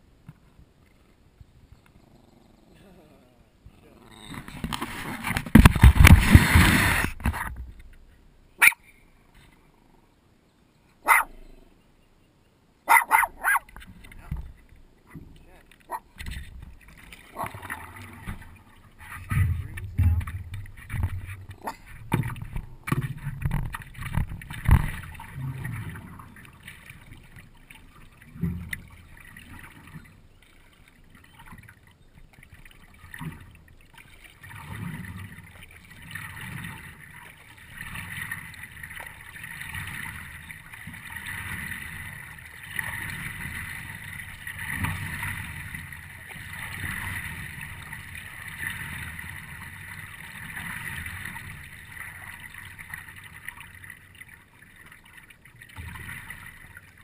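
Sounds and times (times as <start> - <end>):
water gurgling and splashing: 3.8 - 7.8, 12.9 - 57.0.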